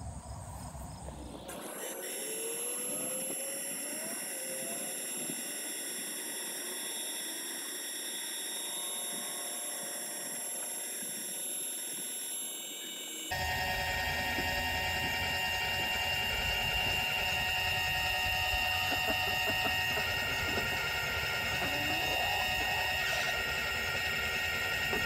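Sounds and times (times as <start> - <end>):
electric motor whining: 1.1 - 25.0.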